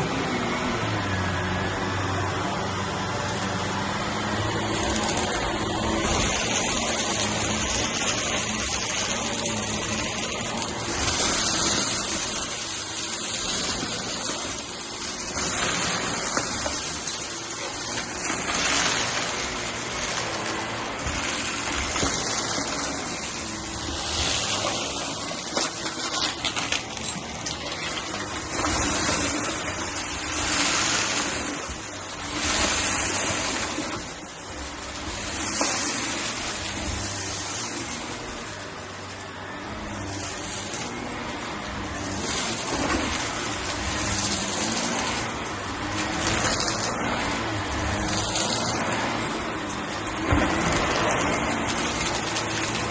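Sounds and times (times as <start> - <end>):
debris rattling up vacuum: 0.0 - 52.9
vacuum cleaner on carpet: 0.0 - 52.9.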